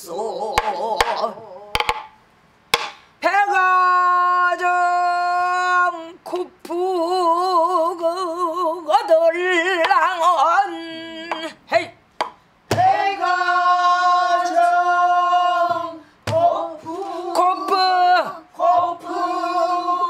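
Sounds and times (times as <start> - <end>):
woman singing with vibrato: 0.0 - 2.1, 3.2 - 12.0, 12.7 - 20.0.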